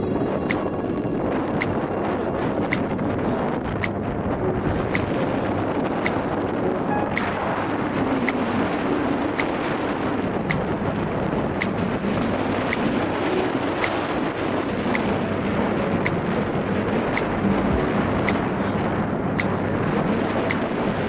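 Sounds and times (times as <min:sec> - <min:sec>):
low rumble: 0:00.0 - 0:21.0
wind buffeting microphone: 0:00.0 - 0:21.0.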